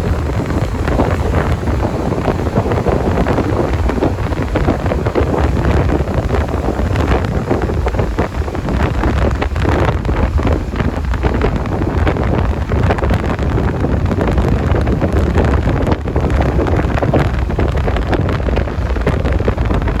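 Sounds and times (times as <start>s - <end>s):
motorcycle and traffic rumble: 0.0s - 20.0s
wind buffeting microphone: 0.0s - 20.0s.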